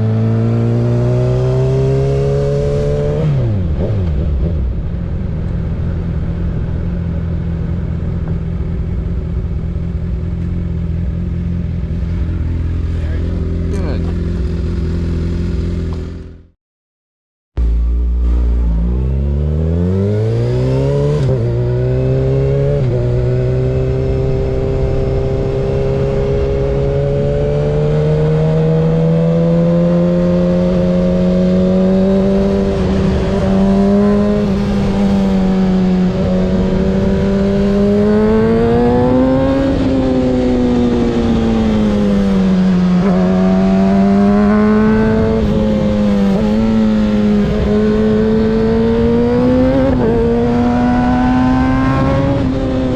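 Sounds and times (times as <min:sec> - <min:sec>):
motorcycle engine revving: 0:00.0 - 0:16.6, 0:17.6 - 0:52.9.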